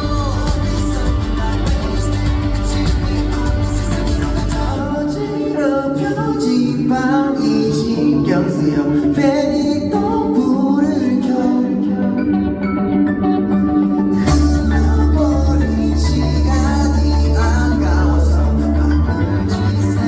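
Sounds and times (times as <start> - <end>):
live band playing: 0.0 - 20.0
person singing live: 0.0 - 20.0.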